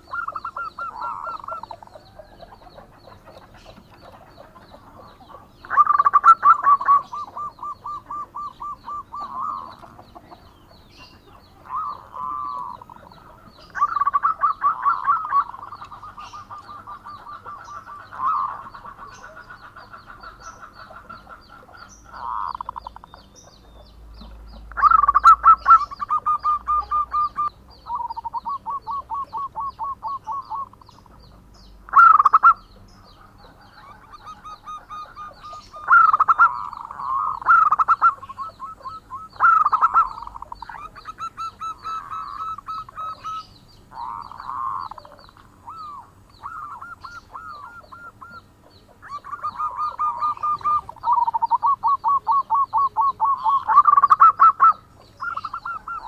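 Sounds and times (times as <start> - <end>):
dove cooing with rolling trills: 0.0 - 56.0.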